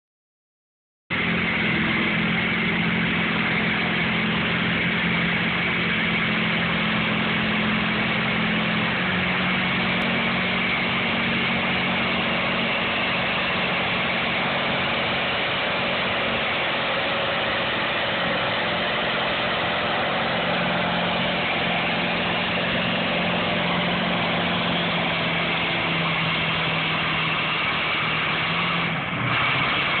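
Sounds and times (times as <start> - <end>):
tractor diesel engine under load: 1.1 - 30.0.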